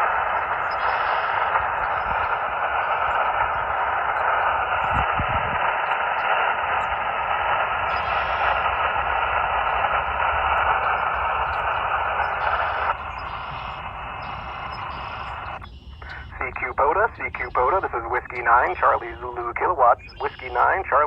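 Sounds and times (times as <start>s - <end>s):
radio receiver hiss: 0.0s - 21.0s.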